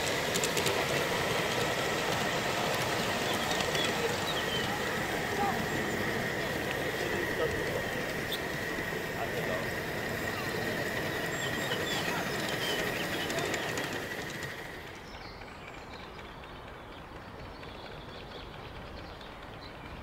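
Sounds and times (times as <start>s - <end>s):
model train running: 0.0s - 20.0s
wheels clicking on track: 0.0s - 20.0s.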